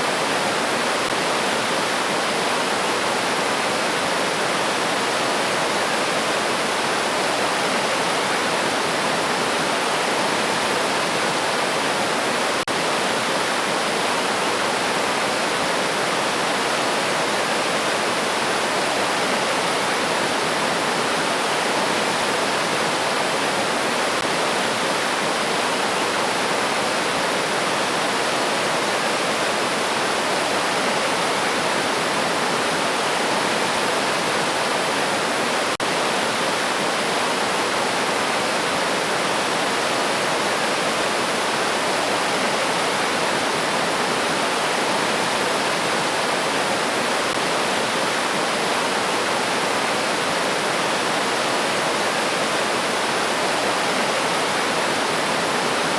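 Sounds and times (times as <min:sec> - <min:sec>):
river rushing over rocks: 0:00.0 - 0:55.9.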